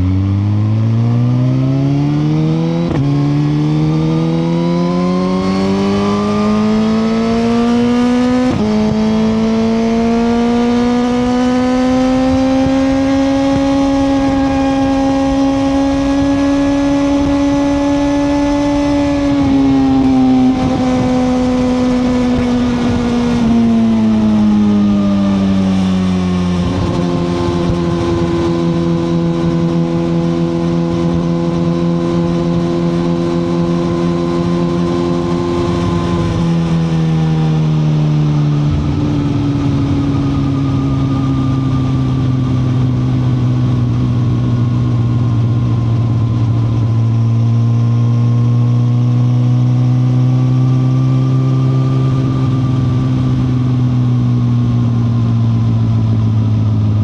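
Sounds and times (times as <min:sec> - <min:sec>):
motorcycle engine revving down: 0:00.0 - 0:57.0
wind and road noise: 0:00.0 - 0:57.0.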